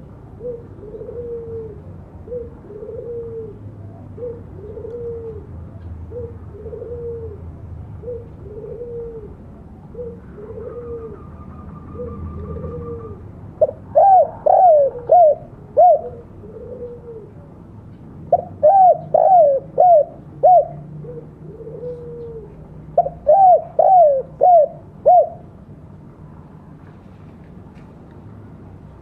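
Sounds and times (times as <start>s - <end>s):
dove cooing: 0.0s - 17.6s, 18.3s - 25.7s.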